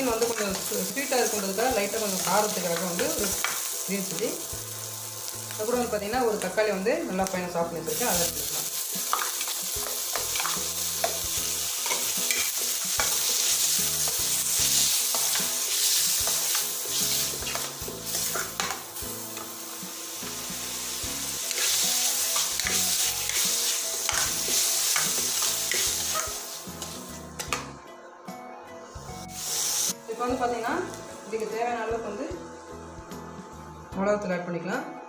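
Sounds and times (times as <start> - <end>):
vegetables sizzling in hot oil: 0.0 - 27.2, 29.2 - 32.6.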